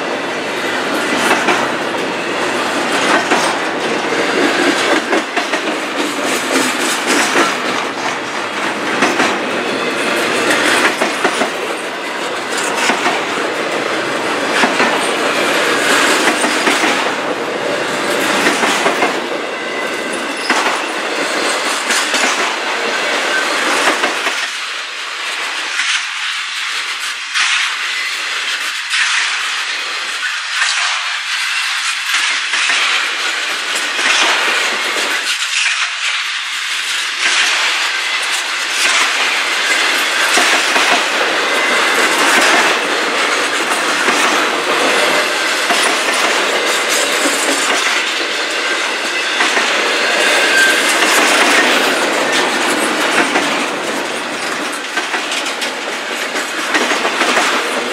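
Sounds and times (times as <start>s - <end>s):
steel wheels clattering on rail: 0.0s - 57.9s
wheels clicking over rail joints: 0.1s - 24.6s, 25.3s - 57.9s.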